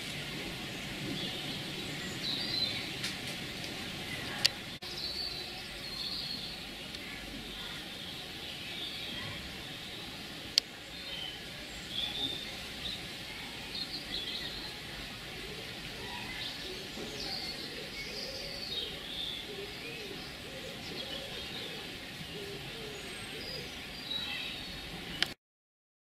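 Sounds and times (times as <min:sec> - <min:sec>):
small birds chirping: 0:00.0 - 0:25.4
steady background noise: 0:00.0 - 0:25.4.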